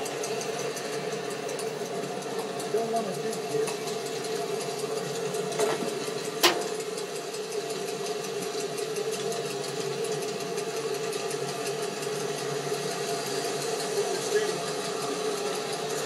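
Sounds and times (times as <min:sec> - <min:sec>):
model train motor whir: 0:00.0 - 0:16.0.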